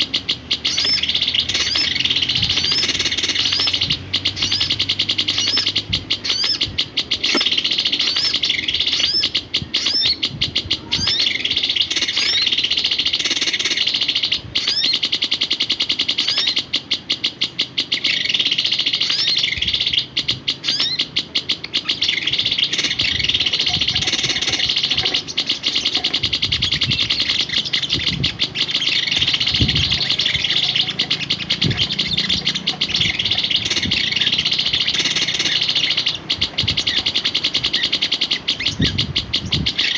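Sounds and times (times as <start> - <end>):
songbird chirping rapidly: 0.0 - 39.9.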